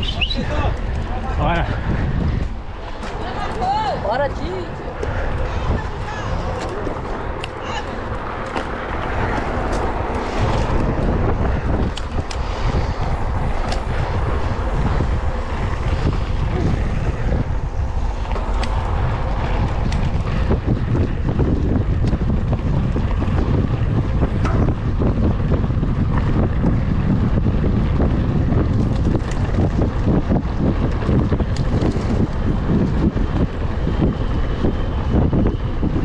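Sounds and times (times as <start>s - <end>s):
tyres rolling on dirt road: 0.0s - 36.0s
wind buffeting microphone: 0.0s - 36.0s.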